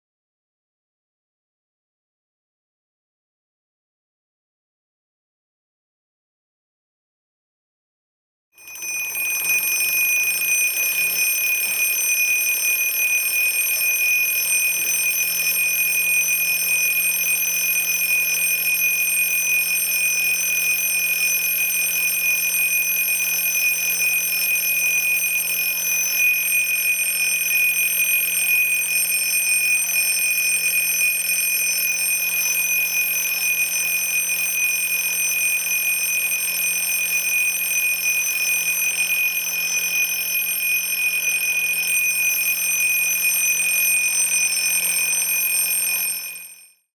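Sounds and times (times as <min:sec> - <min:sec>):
alarm clock high-pitched tone: 0:08.6 - 0:46.9.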